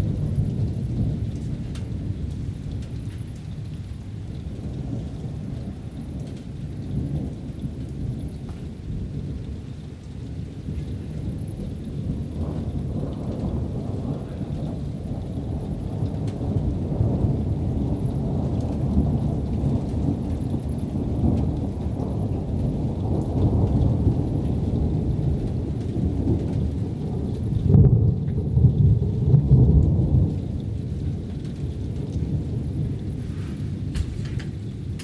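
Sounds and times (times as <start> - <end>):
rolling rumble of thunder: 0.0 - 35.0.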